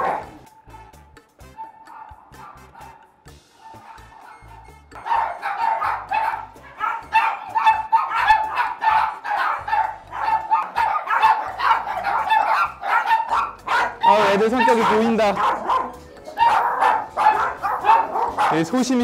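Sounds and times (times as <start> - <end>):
small dogs barking: 0.0 - 0.8, 1.5 - 19.0
background music with steady beat: 0.0 - 19.0.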